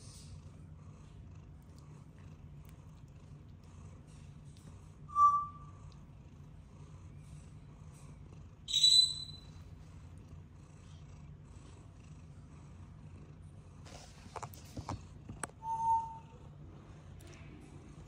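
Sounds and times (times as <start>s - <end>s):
cat purring: 0.0s - 8.7s, 9.4s - 18.0s.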